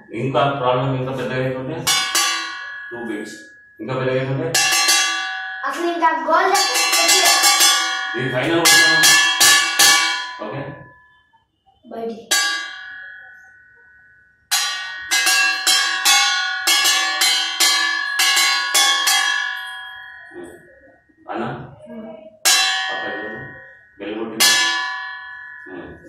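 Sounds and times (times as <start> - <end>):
metal plate struck clanging: 1.0 - 11.1, 12.3 - 13.9, 14.5 - 20.8, 22.5 - 26.0.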